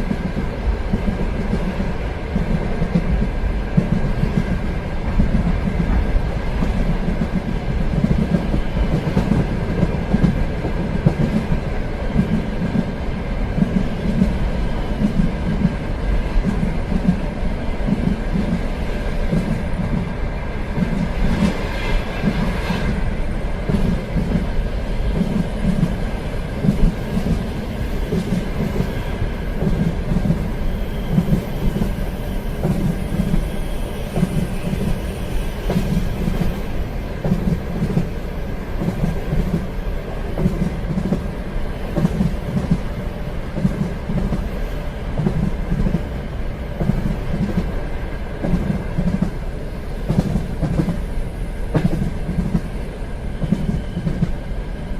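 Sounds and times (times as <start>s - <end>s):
train wheels clacking on rails: 0.0s - 54.9s.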